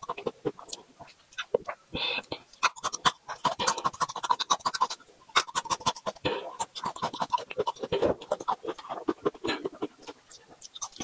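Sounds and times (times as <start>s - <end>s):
crunchy chewing: 0.0s - 11.0s
mouth clicks: 0.0s - 11.0s.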